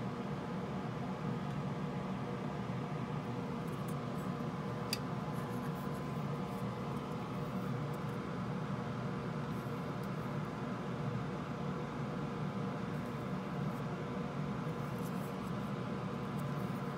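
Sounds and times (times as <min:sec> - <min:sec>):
background hum and hiss: 0:00.0 - 0:16.9.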